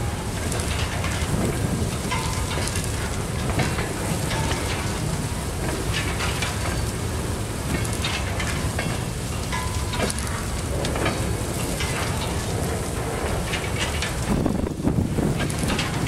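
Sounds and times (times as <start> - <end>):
railcars rolling on steel wheels: 0.0 - 16.0.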